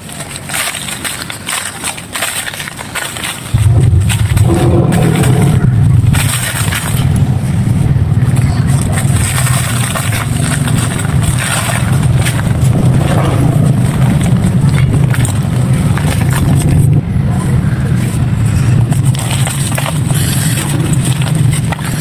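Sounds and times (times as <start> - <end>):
dry clay and sand crunching: 0.0 - 22.0.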